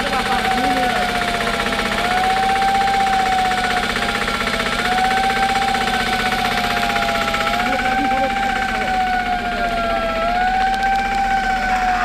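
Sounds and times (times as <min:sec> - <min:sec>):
engine running: 0:00.0 - 0:12.0
siren wavering: 0:00.0 - 0:12.0.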